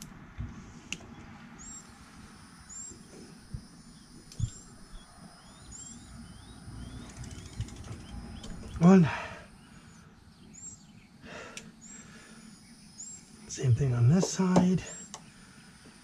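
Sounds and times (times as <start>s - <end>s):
small bird chirping: 1.1s - 15.5s.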